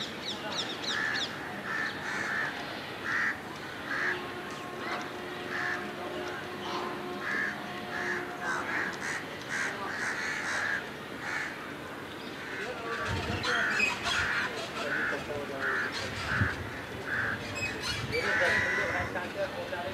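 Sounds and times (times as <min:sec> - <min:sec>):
harsh bird calls: 0:00.0 - 0:19.1.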